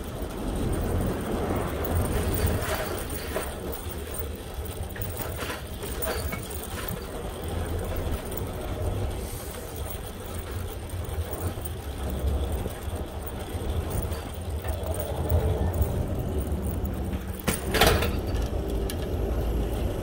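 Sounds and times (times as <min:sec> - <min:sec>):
light clicks or rattles: 0:00.0 - 0:20.0
street traffic noise: 0:00.0 - 0:20.0
wind rumbling on microphone: 0:00.0 - 0:20.0.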